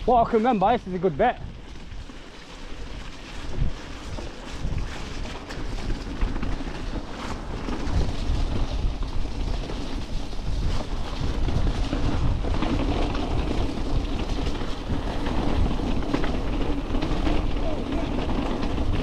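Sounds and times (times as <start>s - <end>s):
bike tyres clattering over rocks: 0.0s - 19.0s
wind buffeting microphone: 0.0s - 19.0s.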